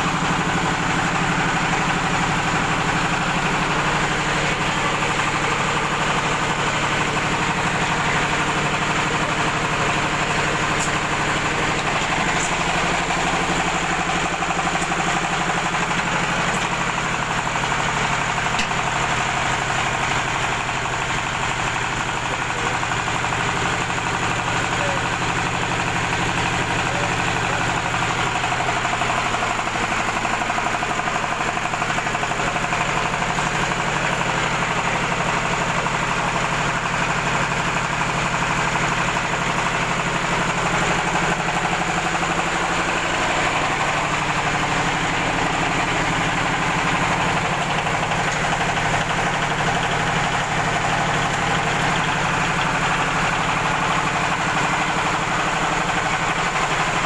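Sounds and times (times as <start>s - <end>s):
cement mixer paddles turning: 0.0s - 57.0s
small engine running steadily: 0.0s - 57.0s.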